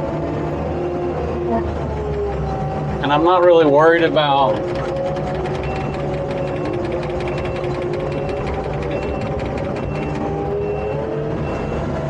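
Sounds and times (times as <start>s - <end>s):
rapid mechanical clatter: 0.0s - 12.0s
skid steer engine running: 0.0s - 12.0s.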